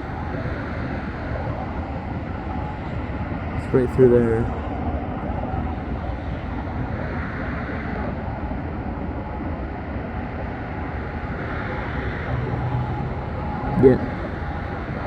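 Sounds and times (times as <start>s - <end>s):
distant freight train rumble: 0.0s - 15.0s
highway traffic noise: 0.0s - 15.0s.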